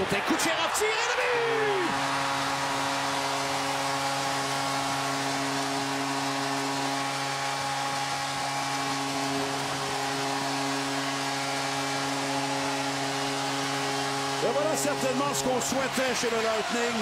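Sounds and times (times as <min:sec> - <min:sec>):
crowd cheering: 0:00.0 - 0:17.0
goal horn blaring: 0:00.3 - 0:17.0.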